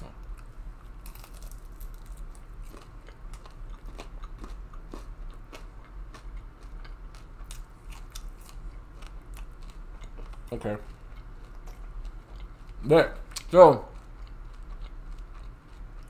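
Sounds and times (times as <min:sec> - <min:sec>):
person chewing crispy chicken: 0:00.1 - 0:16.0.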